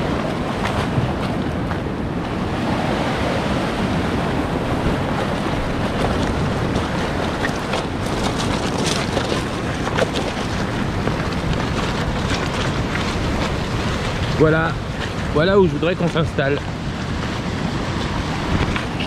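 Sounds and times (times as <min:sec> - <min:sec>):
sea surf breaking on rocks: 0:00.0 - 0:19.0
wind buffeting microphone: 0:00.0 - 0:19.0.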